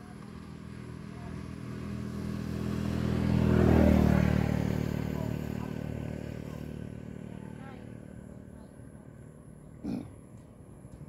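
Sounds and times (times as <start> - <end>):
vehicle engine passing by: 0.0 - 9.5.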